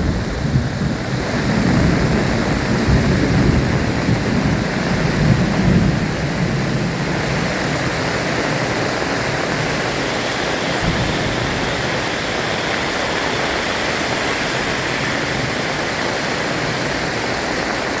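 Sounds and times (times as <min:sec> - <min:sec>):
low thunder rumble: 0:00.0 - 0:10.0, 0:10.6 - 0:17.0
heavy rain: 0:00.0 - 0:18.0.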